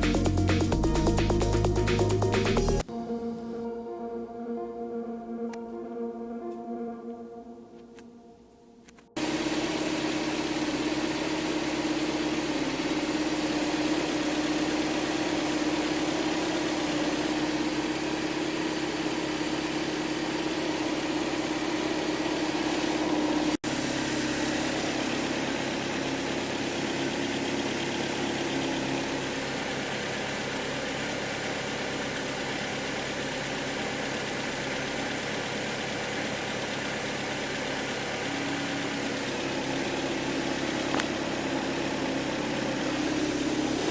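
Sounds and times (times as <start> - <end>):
car engine idling: 0.0 - 2.9, 9.2 - 43.9.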